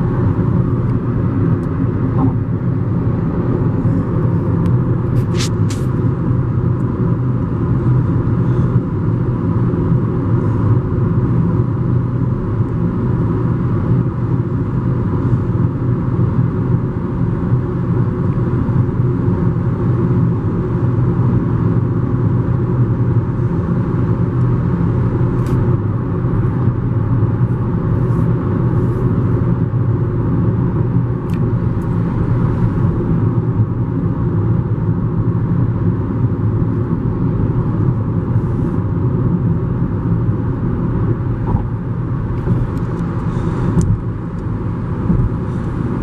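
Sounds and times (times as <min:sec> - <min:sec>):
car tyres and engine rumble: 0:00.0 - 0:46.0.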